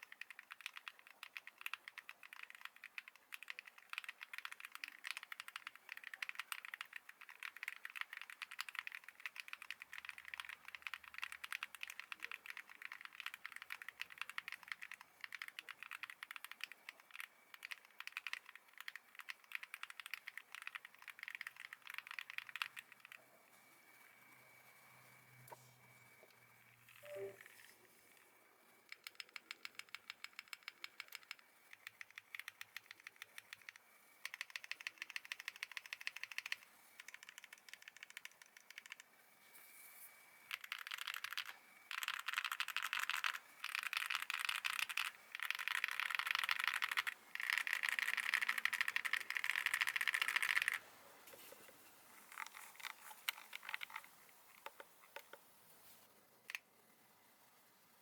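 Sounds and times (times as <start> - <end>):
mechanical keyboard typing: 0.0 - 23.2, 28.9 - 39.1, 40.5 - 50.8, 52.3 - 55.4.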